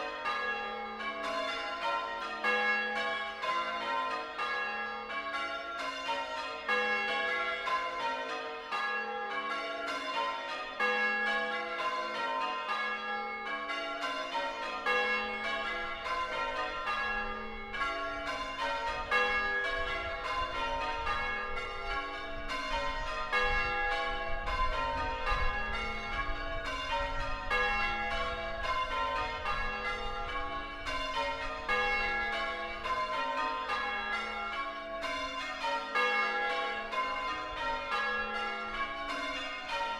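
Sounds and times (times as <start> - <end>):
church bells ringing in changes: 0.0 - 39.9.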